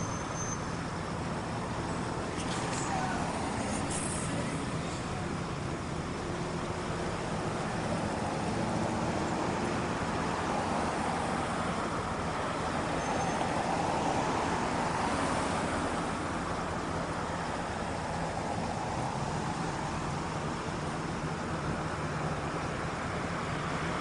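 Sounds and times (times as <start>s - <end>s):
street traffic hum: 0.0s - 24.0s.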